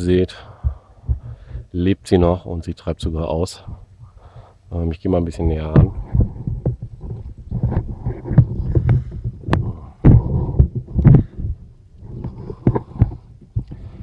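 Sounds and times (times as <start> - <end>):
microphone handling rumble: 0.0 - 2.4, 3.1 - 14.0.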